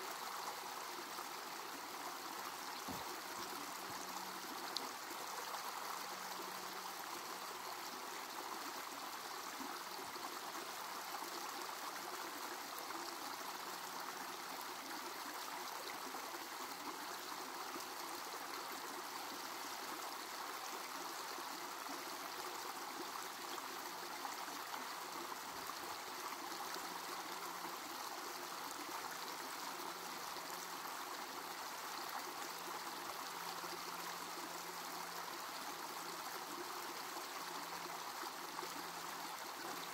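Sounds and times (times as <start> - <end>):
water trickling over rocks: 0.0 - 39.9.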